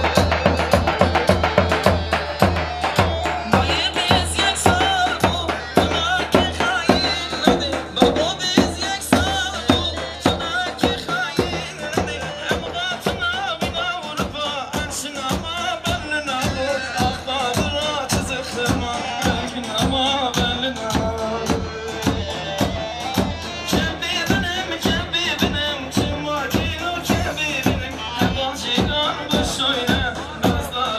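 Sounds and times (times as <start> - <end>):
fast folk dance drum beat: 0.0 - 30.9.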